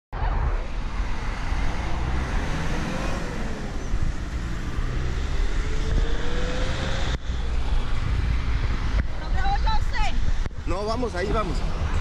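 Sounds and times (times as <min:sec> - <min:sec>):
rumble of cars: 0:00.2 - 0:12.0.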